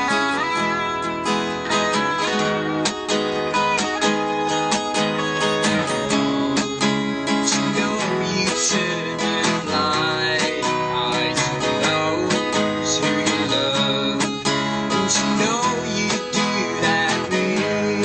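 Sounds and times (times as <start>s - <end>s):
acoustic guitar strumming: 0.0s - 18.0s
electric bass: 0.0s - 18.0s
electric guitar: 0.0s - 18.0s.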